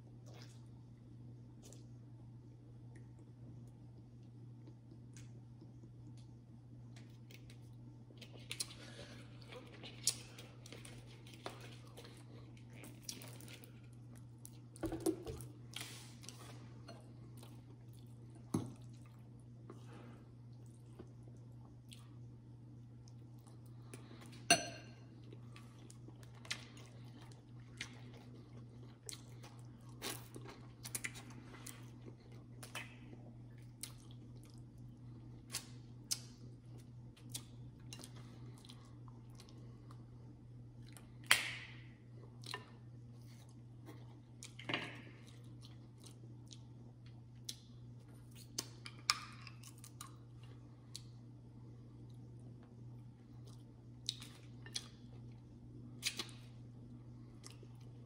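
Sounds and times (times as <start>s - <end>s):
chewing and wet mouth sounds: 0.0s - 2.0s, 2.7s - 58.0s
steady low hum: 0.0s - 58.0s.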